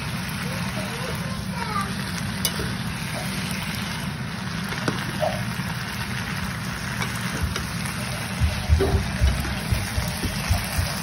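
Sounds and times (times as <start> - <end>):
noodles sizzling in a frying pan: 0.0 - 11.0.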